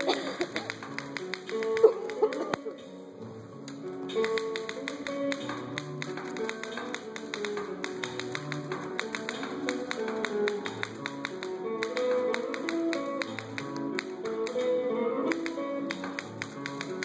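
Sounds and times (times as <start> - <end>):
rapid sharp clicks: 0.0 - 2.6, 3.6 - 17.0
music with sustained notes: 0.0 - 17.0.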